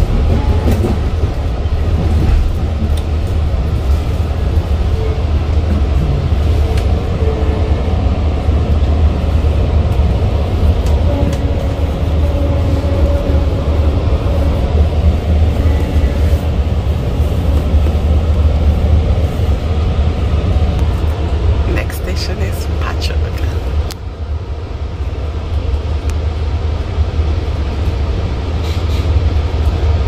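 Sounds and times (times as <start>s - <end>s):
train running along track: 0.0s - 30.0s.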